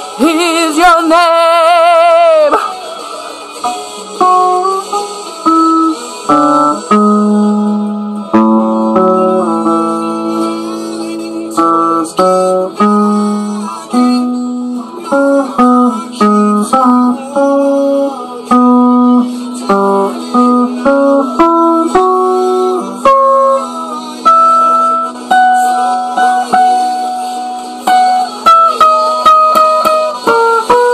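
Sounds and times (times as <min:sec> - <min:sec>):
guitar picking notes and chords: 0:00.0 - 0:30.9.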